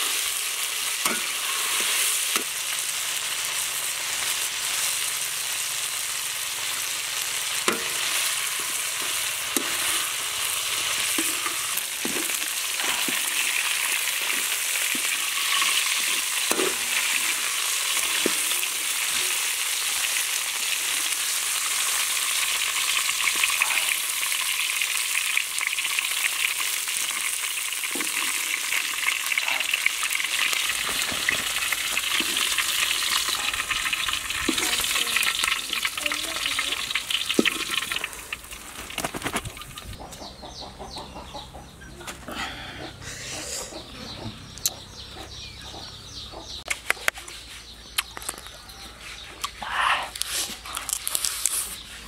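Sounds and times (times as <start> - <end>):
frying hiss in a pan: 0.0 - 40.6, 46.2 - 52.0.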